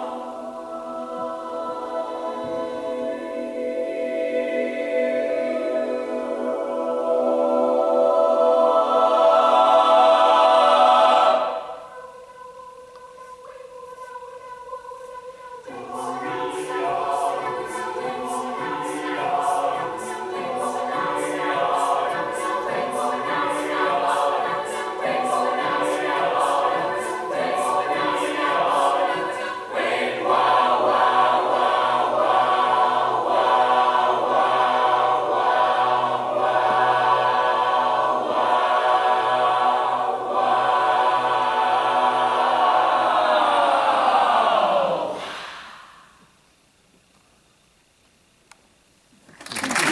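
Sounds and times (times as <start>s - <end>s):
choir singing: 0.0s - 46.2s.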